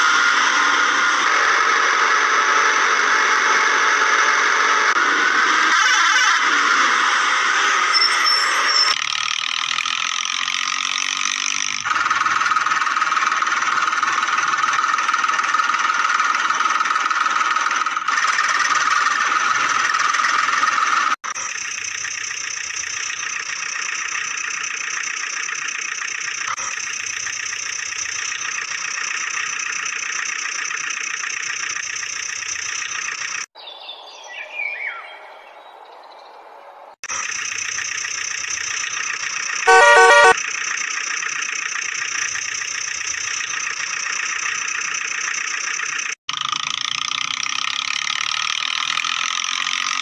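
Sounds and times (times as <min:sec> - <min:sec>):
steady engine sound: 0:00.0 - 0:33.6, 0:36.9 - 0:50.0.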